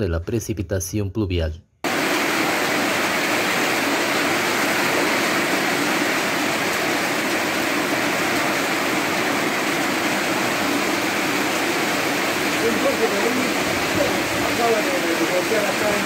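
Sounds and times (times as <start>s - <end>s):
torrential rain pouring: 1.8s - 16.0s.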